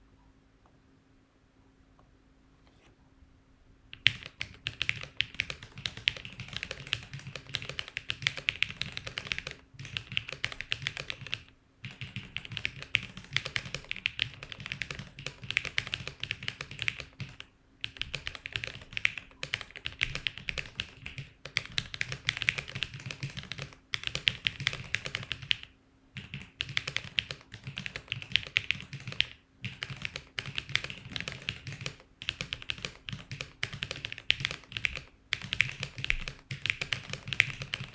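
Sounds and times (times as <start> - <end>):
mechanical keyboard typing: 3.9 - 37.9.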